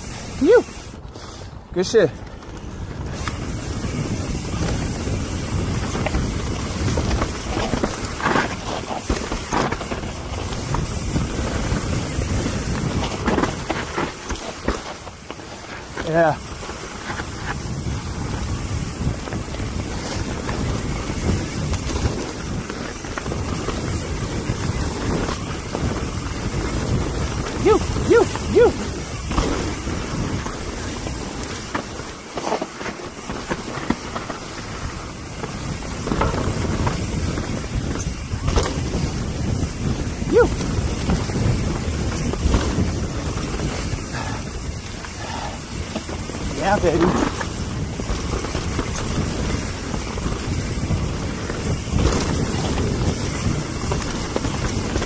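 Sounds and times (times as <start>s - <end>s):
wind buffeting microphone: 0.0s - 55.0s
tyres rumbling on dirt: 1.8s - 55.0s.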